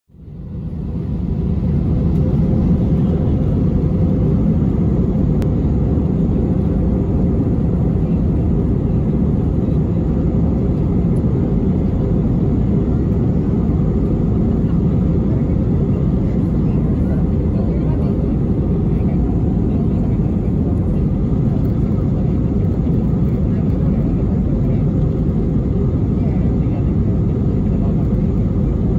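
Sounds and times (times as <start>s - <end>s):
airplane cabin engine rumble: 0.1s - 28.9s.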